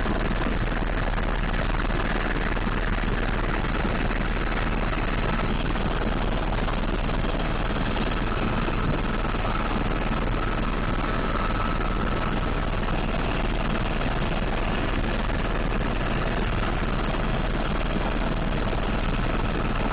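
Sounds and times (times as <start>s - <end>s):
helicopter engine and rotor noise: 0.0s - 19.9s.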